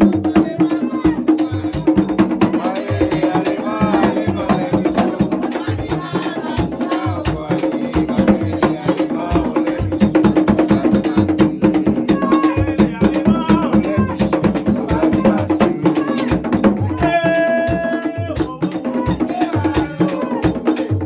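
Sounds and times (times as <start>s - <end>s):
drums: 0.0s - 21.0s
rapid clicking percussion: 0.0s - 21.0s
voices singing: 0.0s - 21.0s.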